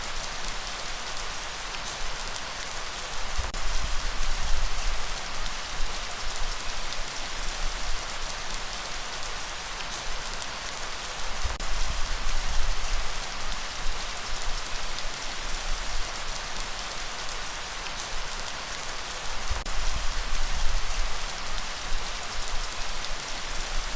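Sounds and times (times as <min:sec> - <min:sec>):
steady rainfall hiss: 0:00.0 - 0:23.9.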